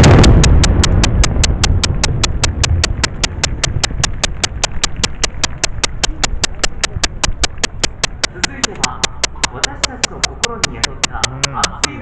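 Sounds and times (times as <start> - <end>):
low rumble of fireworks bursts: 0.0 - 11.1
steady sharp ticking: 0.0 - 12.0.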